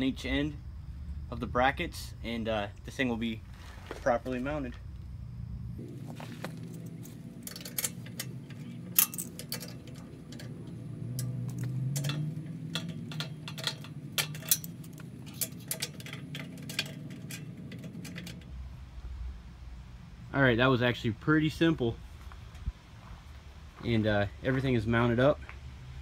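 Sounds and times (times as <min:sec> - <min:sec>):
low steady hum: 0:00.0 - 0:25.6.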